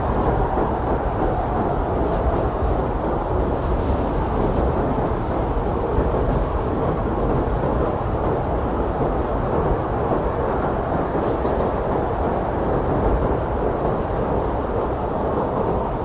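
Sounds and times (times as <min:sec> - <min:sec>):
blizzard wind roaring: 0:00.0 - 0:16.0.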